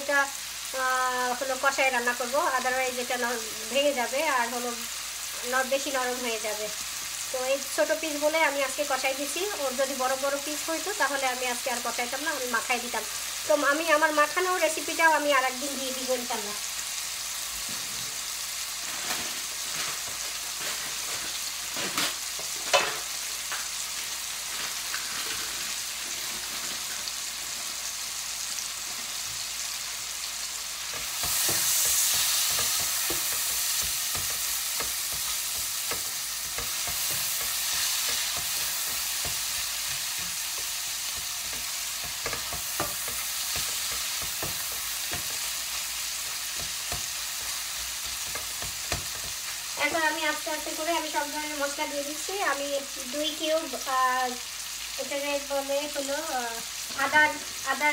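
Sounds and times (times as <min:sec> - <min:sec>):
onions sizzling in oil: 0:00.0 - 0:57.9.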